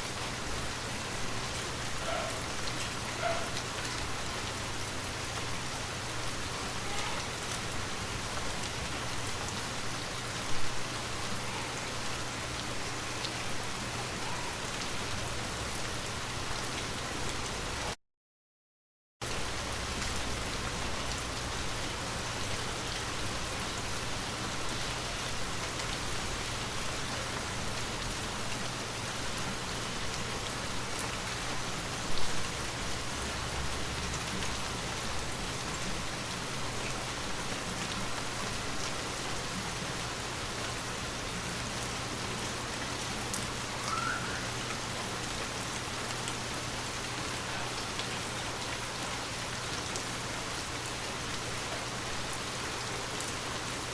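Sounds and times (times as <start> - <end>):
steady rain pattering: 0.0 - 18.0, 19.2 - 53.9.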